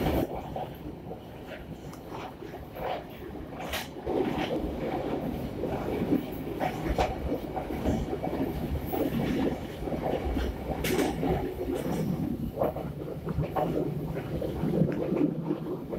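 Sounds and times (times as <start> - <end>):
train rumbling on rails: 0.0 - 15.9
wheels clicking over track: 1.8 - 15.9.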